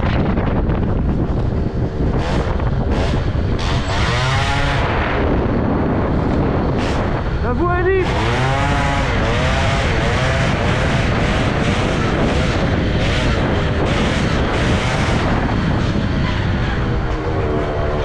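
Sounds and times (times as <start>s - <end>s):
moped engine revving: 0.0s - 18.0s
steady rushing noise: 0.0s - 18.0s.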